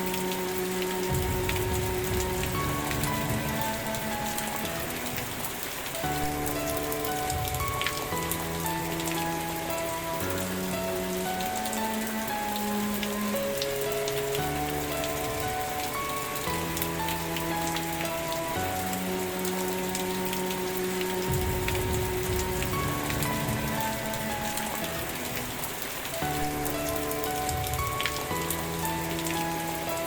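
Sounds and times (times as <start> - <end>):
raindrop hits: 0.0 - 30.0
slow sustained music chords: 0.0 - 30.0
steady rain: 0.0 - 30.0.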